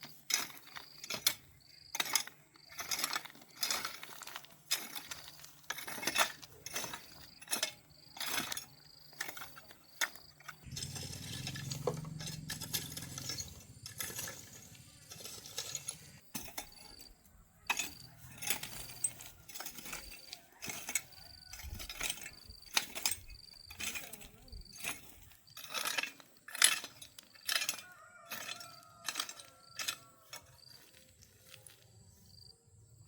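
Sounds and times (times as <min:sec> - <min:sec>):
light metallic clinks and knocks: 0:00.1 - 0:30.9.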